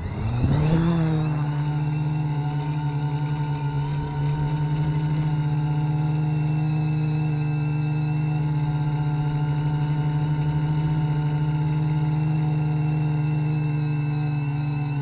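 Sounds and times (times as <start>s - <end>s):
drone motors and propellers: 0.0s - 15.0s.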